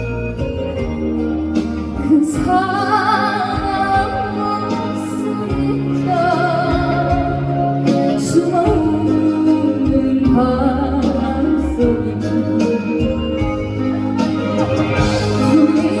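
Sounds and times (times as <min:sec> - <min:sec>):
instrumental accompaniment: 0:00.0 - 0:16.0
person singing with vibrato: 0:02.0 - 0:16.0.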